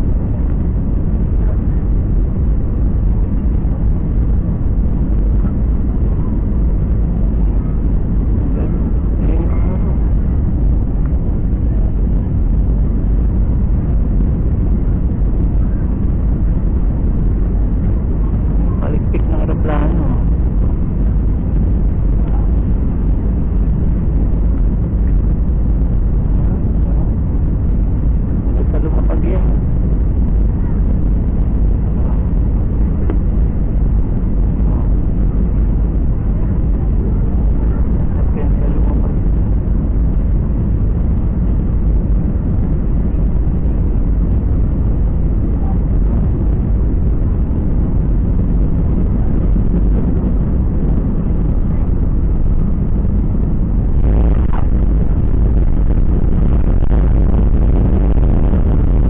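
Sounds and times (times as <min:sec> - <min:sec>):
jet cabin engine rumble: 0:00.0 - 0:59.0.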